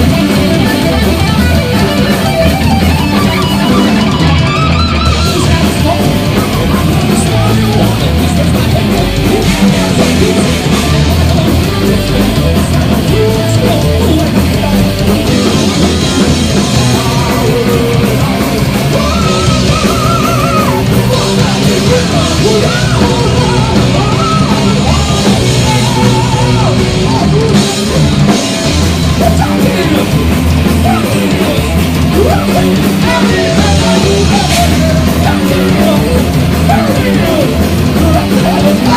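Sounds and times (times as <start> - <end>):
heavy metal band playing: 0.0 - 38.9.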